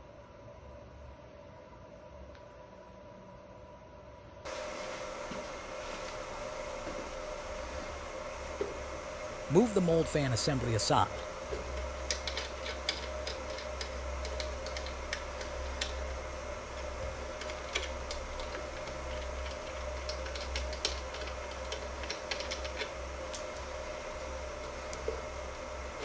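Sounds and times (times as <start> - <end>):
machine low hum: 0.0 - 26.0
stepper motors whine: 4.5 - 26.0.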